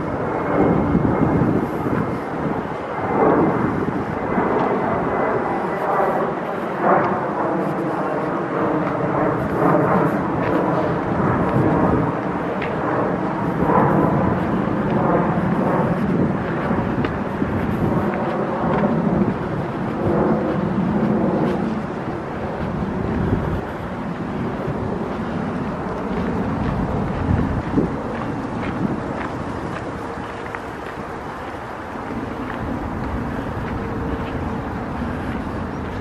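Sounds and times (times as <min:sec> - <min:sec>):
airplane engine drone: 0:00.0 - 0:36.0
footsteps on dirt path: 0:00.0 - 0:36.0.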